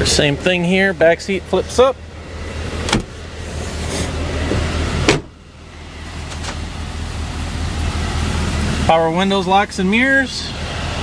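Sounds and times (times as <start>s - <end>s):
truck engine idling: 0.0s - 11.0s
air-conditioning blower: 1.5s - 11.0s.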